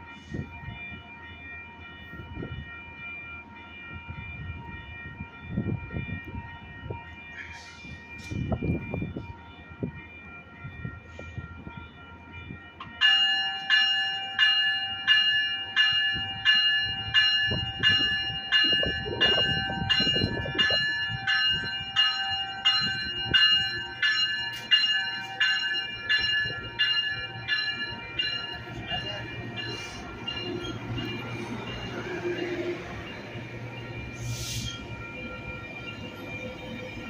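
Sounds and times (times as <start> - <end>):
low rumble of train: 0.0 - 37.0
railway bell ringing: 0.0 - 37.0.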